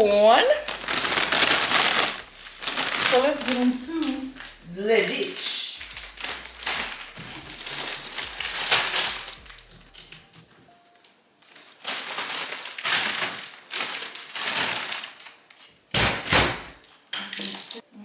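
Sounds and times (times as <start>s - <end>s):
plastic bags crinkling: 0.0s - 10.7s, 11.4s - 15.9s.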